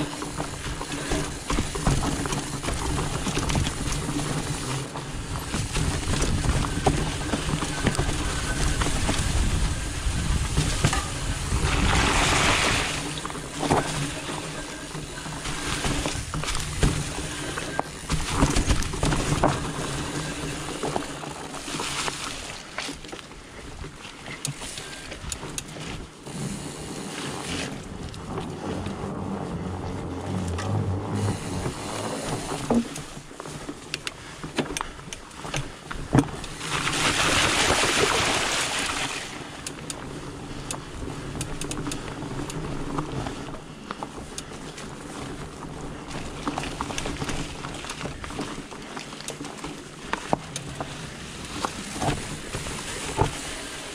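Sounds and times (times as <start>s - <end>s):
bike rattling over bumps: 0.0s - 53.9s
bike tyres humming: 0.0s - 53.9s.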